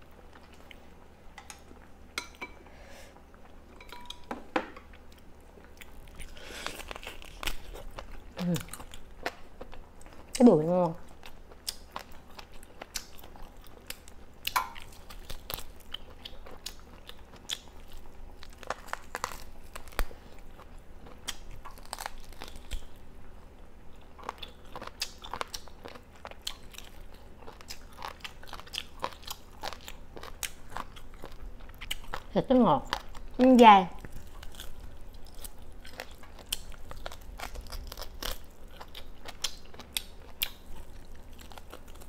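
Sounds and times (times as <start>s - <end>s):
person chewing meat: 0.0s - 2.2s, 4.8s - 32.3s, 34.0s - 42.0s.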